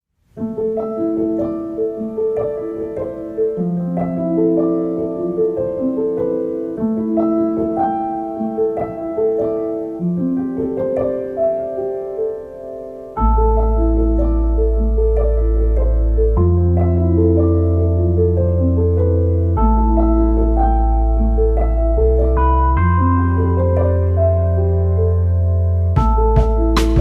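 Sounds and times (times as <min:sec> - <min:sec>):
slow piano piece: 0:00.2 - 0:27.0.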